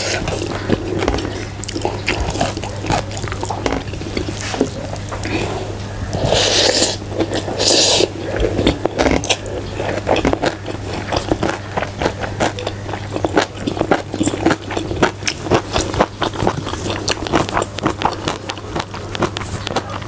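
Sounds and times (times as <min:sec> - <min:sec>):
person chewing food: 0:00.0 - 0:20.0
steady low hum: 0:00.0 - 0:20.0.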